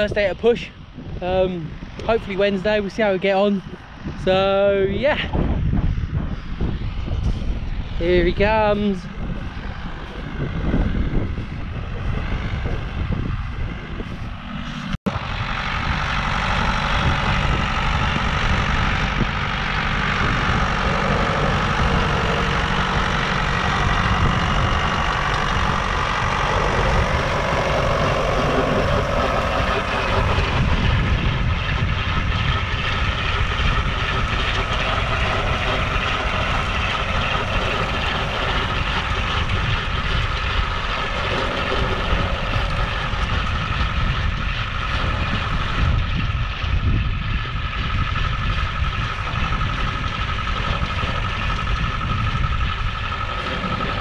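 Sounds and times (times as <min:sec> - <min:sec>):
tractor diesel engine running: 0:00.0 - 0:54.0
wind buffeting microphone: 0:00.0 - 0:54.0.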